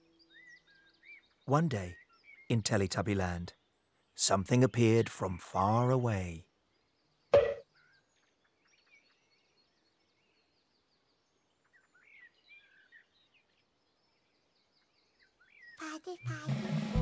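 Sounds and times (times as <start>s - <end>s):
faint bird chirps: 0.0s - 4.3s, 6.4s - 16.5s.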